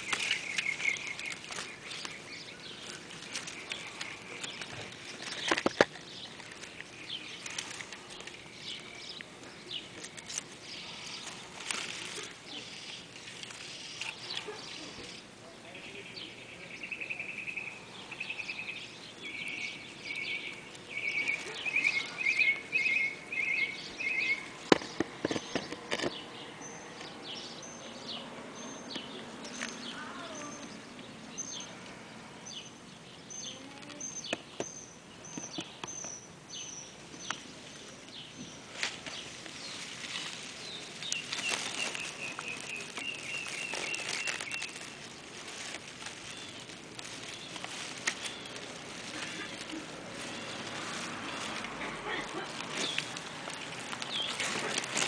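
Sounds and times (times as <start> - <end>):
small birds trilling: 0.0 - 55.0.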